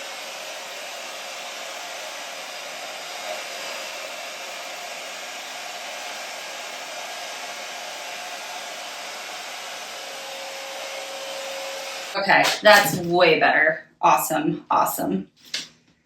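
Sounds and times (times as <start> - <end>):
handheld blow dryer running: 0.0 - 13.0.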